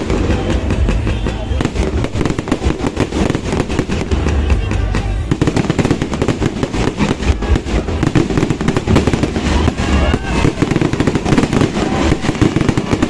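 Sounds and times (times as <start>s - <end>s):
fireworks popping and cracking: 0.0s - 13.0s.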